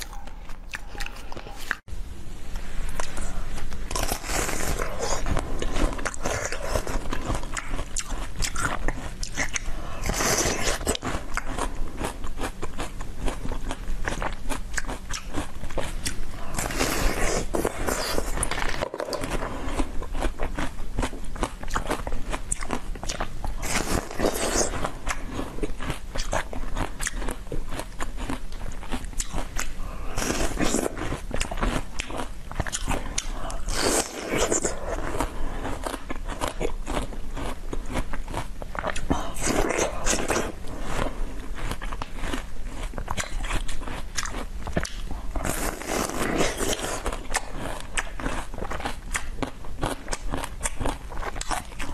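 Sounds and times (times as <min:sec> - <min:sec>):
crunchy ice chewing: 0:00.0 - 0:01.9, 0:03.0 - 0:51.9.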